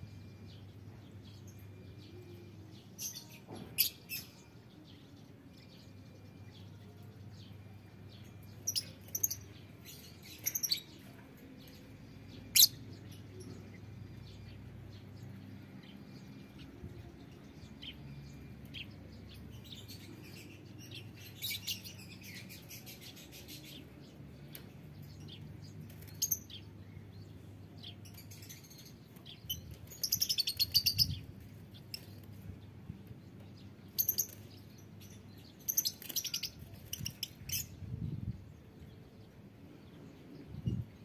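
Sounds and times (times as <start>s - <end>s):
lovebirds chirping and chattering: 0.0s - 41.0s.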